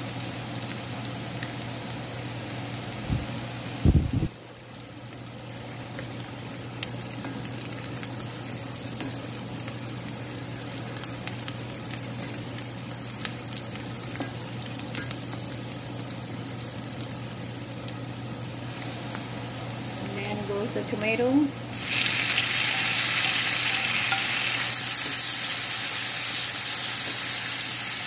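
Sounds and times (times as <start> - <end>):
onion sizzling in butter: 0.0 - 28.0.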